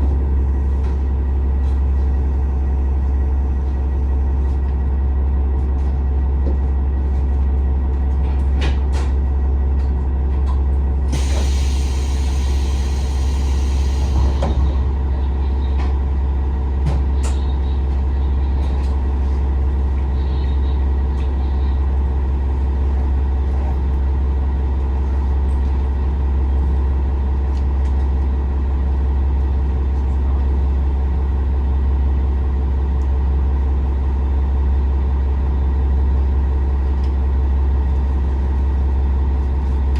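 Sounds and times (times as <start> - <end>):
diesel railcar engine droning: 0.0 - 39.9.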